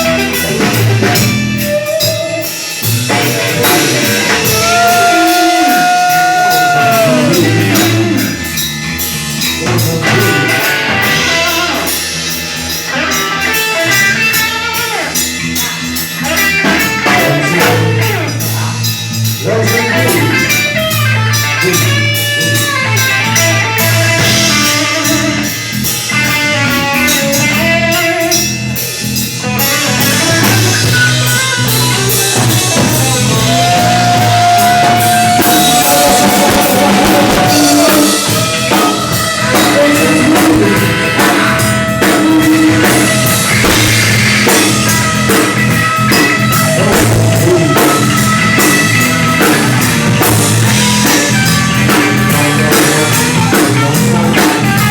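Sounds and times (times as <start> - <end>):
rock and roll band playing: 0.0 - 54.9.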